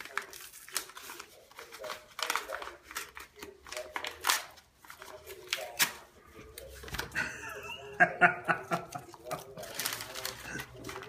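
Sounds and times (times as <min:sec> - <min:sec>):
paper crinkling and tearing: 0:00.0 - 0:07.2, 0:08.7 - 0:11.0.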